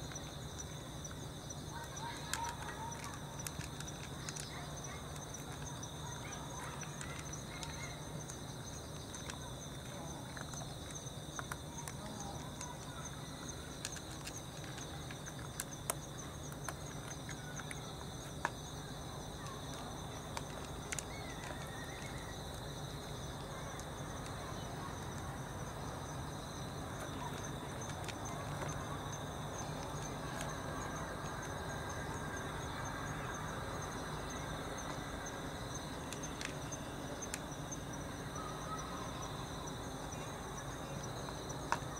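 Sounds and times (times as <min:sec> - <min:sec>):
cats eating from plastic trays: 0:00.0 - 0:41.9
crickets chirring: 0:00.0 - 0:41.9.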